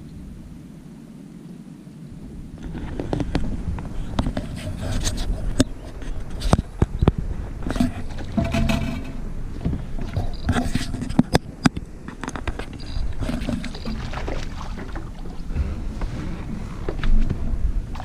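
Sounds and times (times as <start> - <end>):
wind rumbling on microphone: 0.0 - 18.0
boat knocking and rattling: 2.6 - 18.0.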